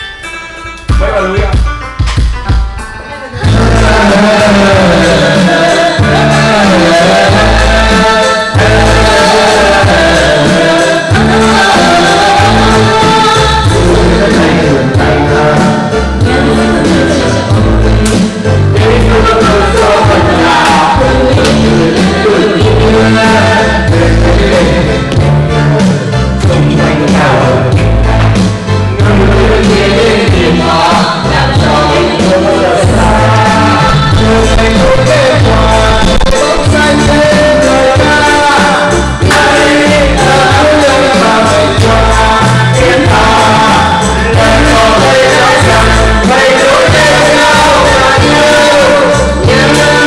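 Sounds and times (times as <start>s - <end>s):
steady bass line: 0.0s - 50.0s
person singing: 2.8s - 50.0s.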